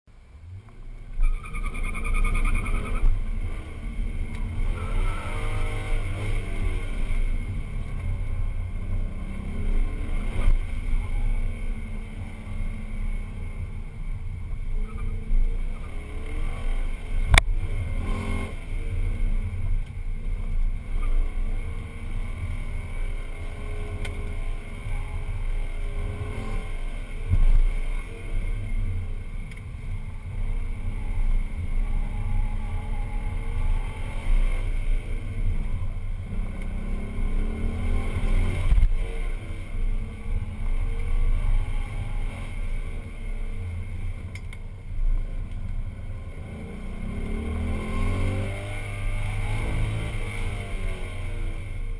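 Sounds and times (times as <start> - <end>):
wind and road noise: 0.0 - 51.9
car engine revving: 0.4 - 51.9.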